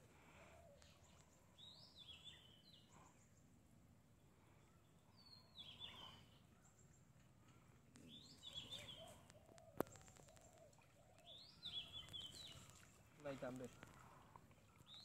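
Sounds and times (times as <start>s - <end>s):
faint bird chirp: 0.0s - 15.0s.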